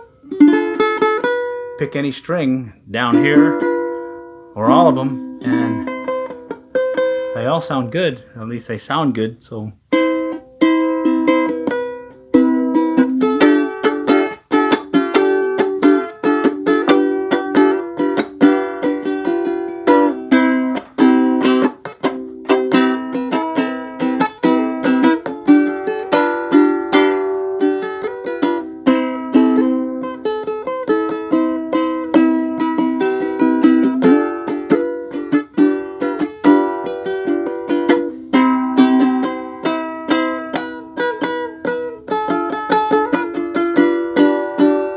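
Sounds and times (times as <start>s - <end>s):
ukulele strumming: 0.0s - 44.9s.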